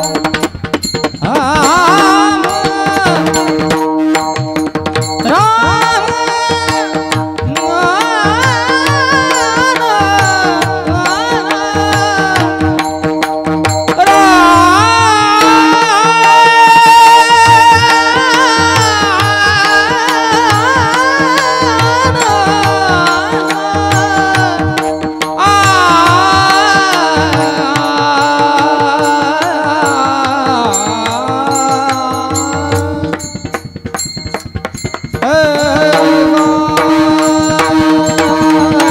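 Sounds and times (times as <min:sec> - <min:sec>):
hand drum rhythm: 0:00.0 - 0:38.9
instrumental drone: 0:00.0 - 0:38.9
high voice singing: 0:01.2 - 0:33.7, 0:35.1 - 0:38.9.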